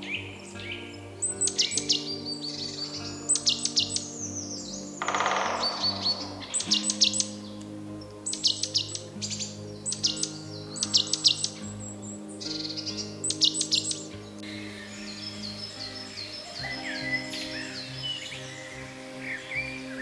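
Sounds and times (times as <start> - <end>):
bird chirping: 0.0 - 20.0
soft music pad: 0.0 - 20.0.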